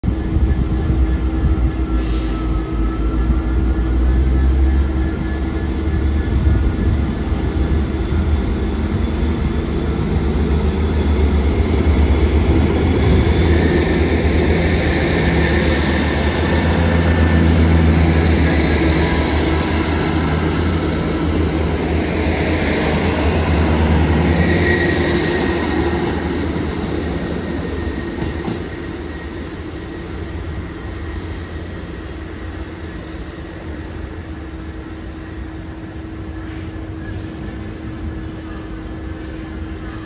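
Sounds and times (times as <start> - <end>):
diesel train engines droning: 0.0 - 40.0.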